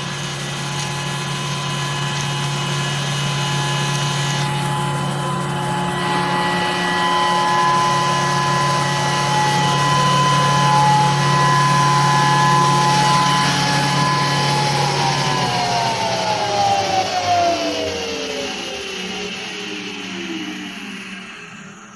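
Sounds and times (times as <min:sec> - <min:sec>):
milling machine motor hum and whine: 0:00.0 - 0:21.9.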